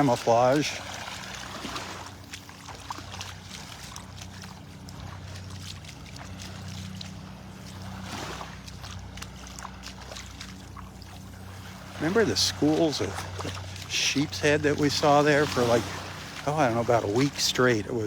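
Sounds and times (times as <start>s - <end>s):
faint water sounds: 0.0s - 18.0s
motorboat engine humming: 0.0s - 18.0s.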